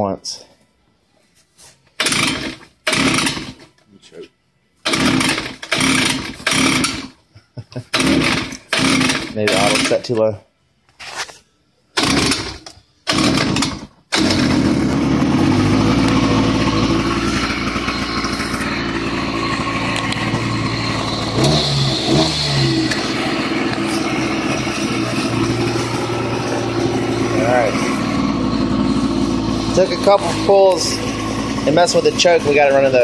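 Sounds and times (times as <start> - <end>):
two-stroke engine running: 2.0 - 3.6, 4.8 - 7.1, 7.9 - 10.0, 12.0 - 33.0
recoil starter pulls: 2.0 - 3.7, 4.8 - 7.2, 7.9 - 10.2, 12.0 - 33.0.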